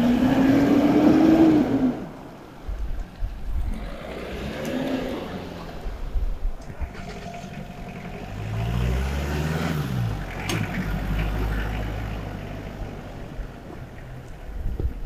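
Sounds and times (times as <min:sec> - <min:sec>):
military vehicles driving past: 0:00.0 - 0:15.0.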